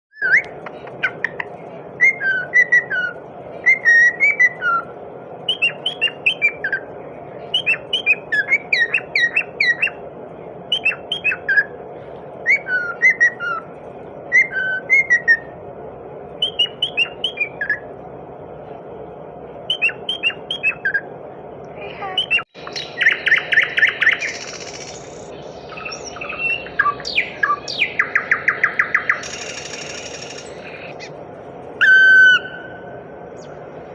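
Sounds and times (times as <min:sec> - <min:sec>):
birds whistling and chirping: 0:00.1 - 0:15.6, 0:16.4 - 0:17.9, 0:19.6 - 0:21.1, 0:22.0 - 0:31.2, 0:31.8 - 0:33.6
birds giving buzzy trills: 0:00.2 - 0:15.6, 0:16.4 - 0:18.0, 0:21.8 - 0:33.8.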